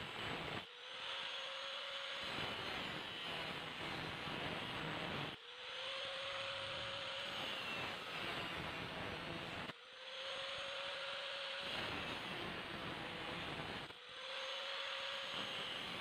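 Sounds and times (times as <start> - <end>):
power tool motor running: 0.0 - 16.0.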